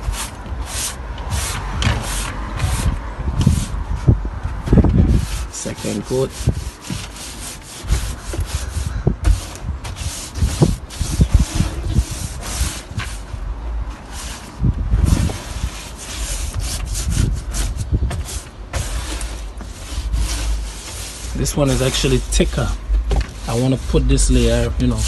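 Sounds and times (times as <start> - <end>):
broom bristles scrubbing wood floor: 0.0 - 4.2, 4.9 - 25.0.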